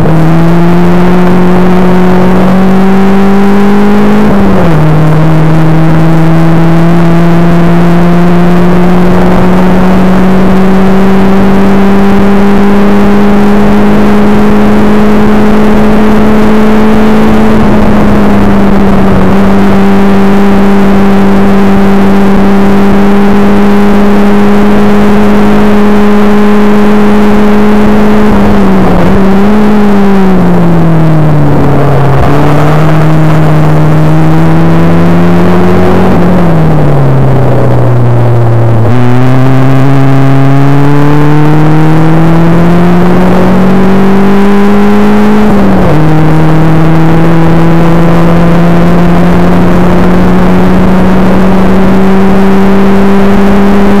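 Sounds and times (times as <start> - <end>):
sports car engine running hard: 0.0 - 54.0
wind and road noise: 0.0 - 54.0.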